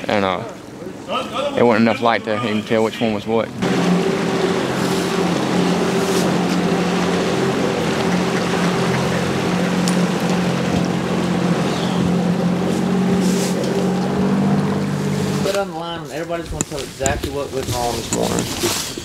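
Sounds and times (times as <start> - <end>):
outboard motor drone: 0.0 - 16.0.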